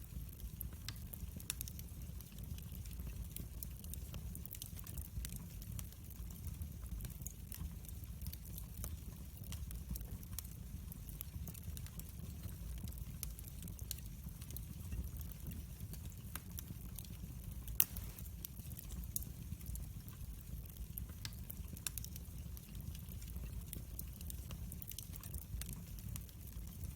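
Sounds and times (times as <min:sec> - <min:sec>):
fire crackling and popping: 0:00.0 - 0:26.9.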